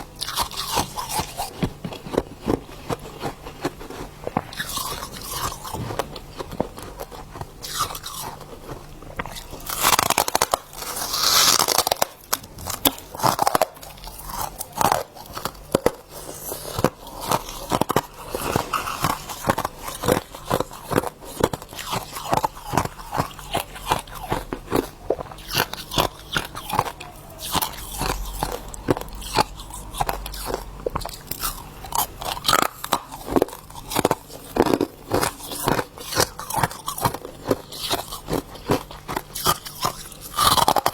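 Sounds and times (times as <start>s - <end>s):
frost being bitten and chewed: 0.0s - 40.9s.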